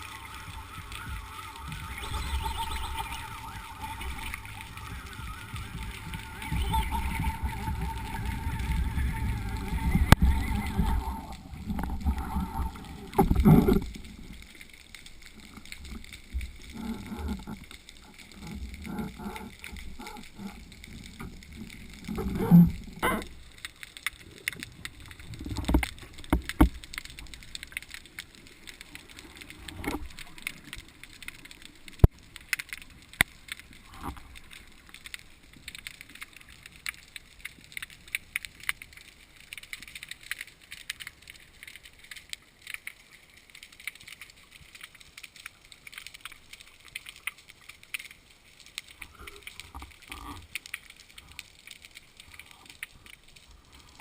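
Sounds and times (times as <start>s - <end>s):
water gurgling: 0.0s - 54.0s.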